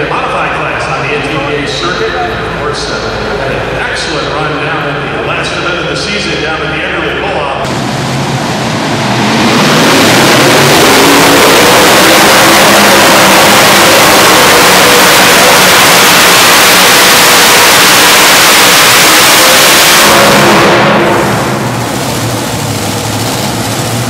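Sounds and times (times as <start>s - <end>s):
tractor engines roaring: 0.0s - 24.0s.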